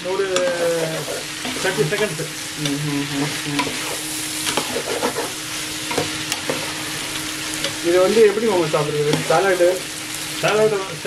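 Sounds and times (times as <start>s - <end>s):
food sizzling in pan: 0.0s - 11.0s
spatula scraping pan: 0.2s - 10.7s.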